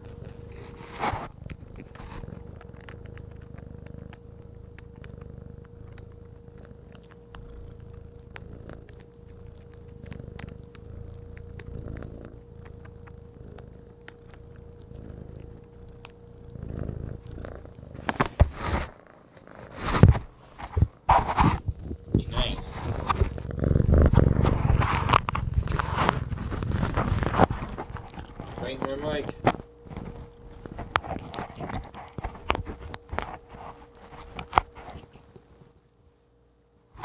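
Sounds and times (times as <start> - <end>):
kitten purring: 0.0 - 35.8.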